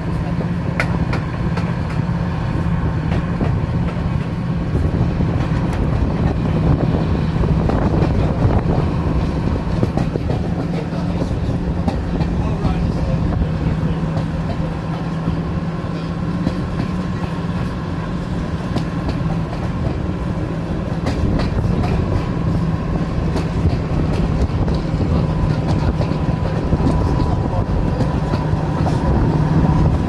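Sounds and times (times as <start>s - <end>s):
light track clicks: 0.0s - 30.0s
train wheels rumbling on rails: 0.0s - 30.0s.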